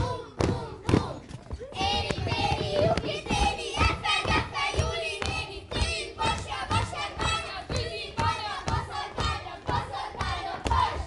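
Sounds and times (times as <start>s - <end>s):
children singing together: 0.0s - 1.2s, 1.8s - 11.0s.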